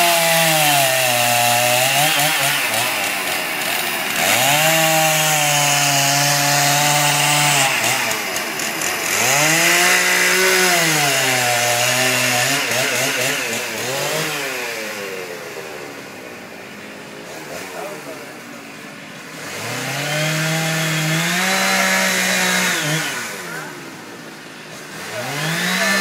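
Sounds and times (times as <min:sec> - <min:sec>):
chainsaw revving: 0:00.0 - 0:26.0.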